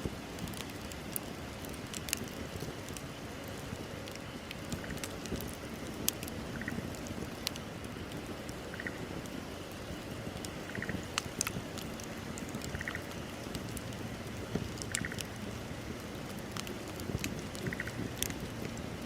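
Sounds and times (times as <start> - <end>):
bonfire crackling and popping: 0.0 - 19.0
low rush of fire: 0.0 - 19.0.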